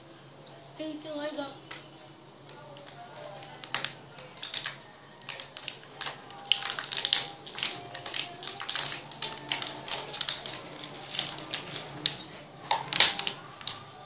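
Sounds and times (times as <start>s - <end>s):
plastic bottle crackling: 2.5s - 13.9s.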